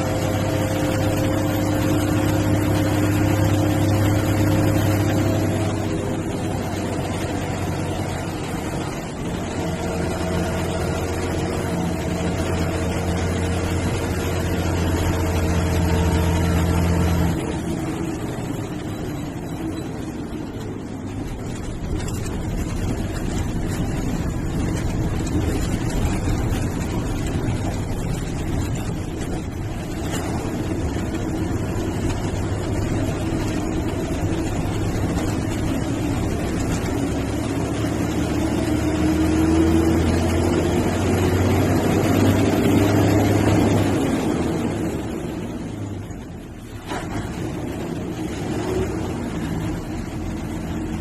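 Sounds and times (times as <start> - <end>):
bus diesel engine: 0.0 - 51.0
road noise: 0.0 - 51.0.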